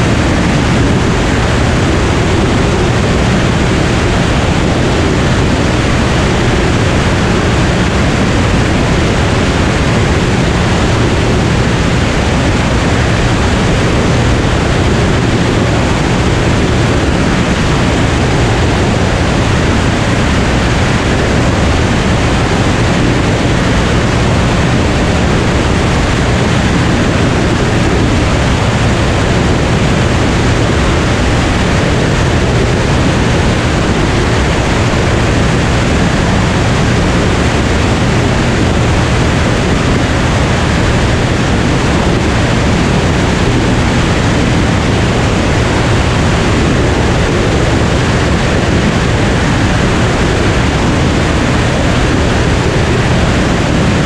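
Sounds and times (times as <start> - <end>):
airflow rushing: 0.0 - 54.0
propeller plane engine drone: 0.0 - 54.0.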